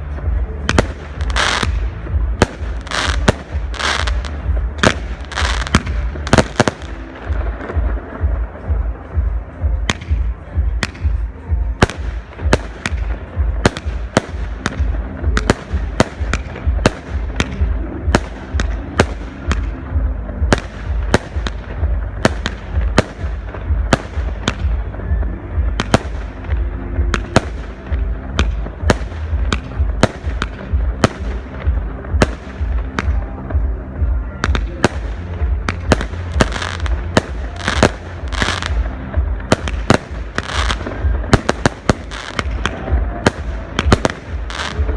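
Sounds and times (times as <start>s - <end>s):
fireworks hissing and crackling: 0.0s - 44.9s.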